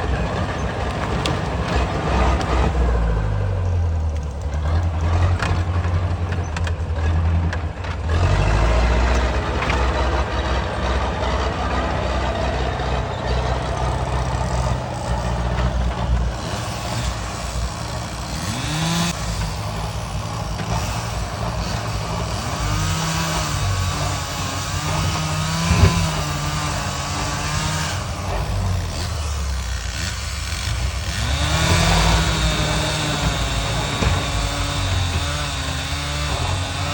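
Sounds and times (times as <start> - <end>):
heavy diesel engine under load: 0.0 - 36.9.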